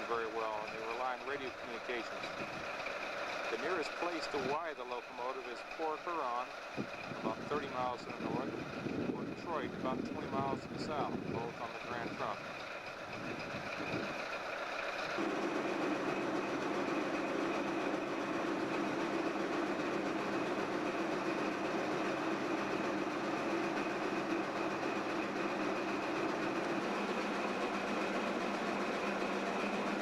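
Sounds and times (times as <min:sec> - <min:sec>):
diesel locomotive idling: 0:00.0 - 0:30.0.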